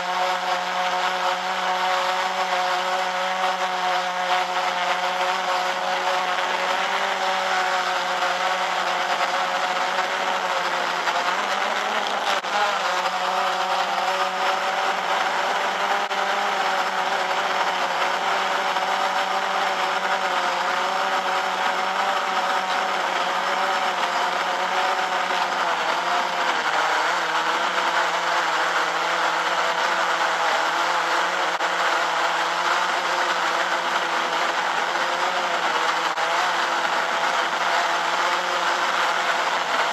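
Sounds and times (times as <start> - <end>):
drone buzzing whine: 0.0 - 39.9.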